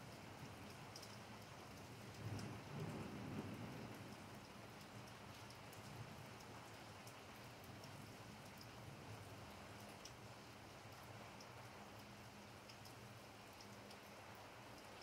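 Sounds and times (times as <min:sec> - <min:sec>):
faint rain on pavement: 0:00.0 - 0:15.0.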